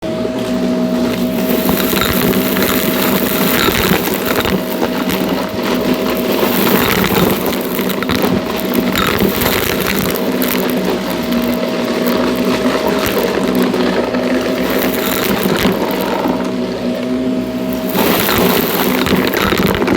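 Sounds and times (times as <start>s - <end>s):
vacuum cleaner motor whine: 0.0s - 19.9s
crackles of debris sucked up: 0.3s - 19.9s.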